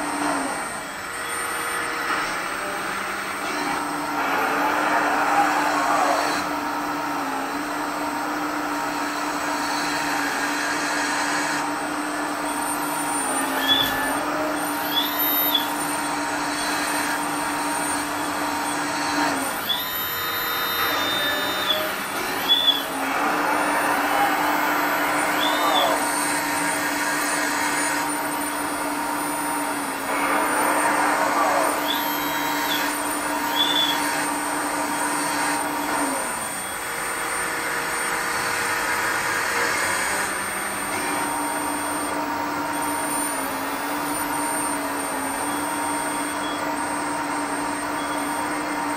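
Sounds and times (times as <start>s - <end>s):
hydraulic pump whining hum: 0.0s - 48.9s.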